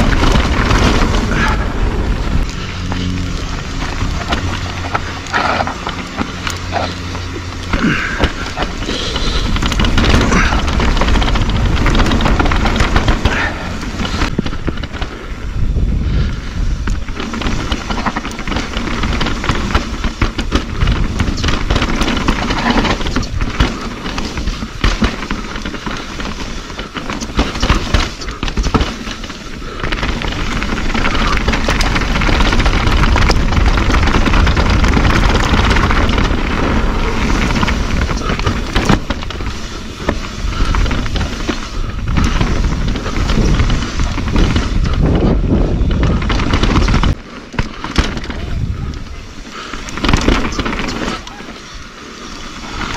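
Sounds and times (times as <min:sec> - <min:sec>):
bike rattling over rocks: 0:00.0 - 0:52.9
wind buffeting microphone: 0:00.0 - 0:52.9.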